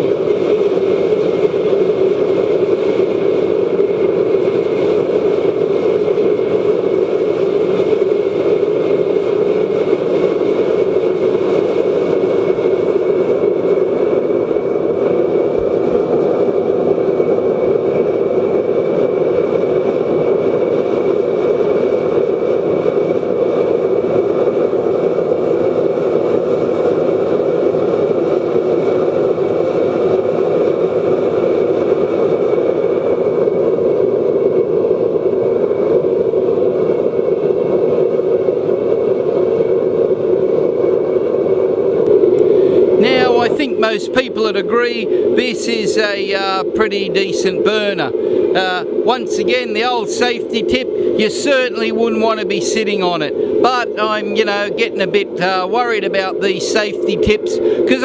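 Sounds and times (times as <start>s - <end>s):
rushing of flame and air: 0.0s - 58.0s.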